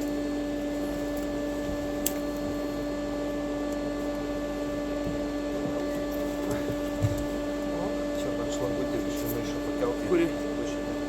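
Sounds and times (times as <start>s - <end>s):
mechanical hum with drone: 0.0s - 11.0s.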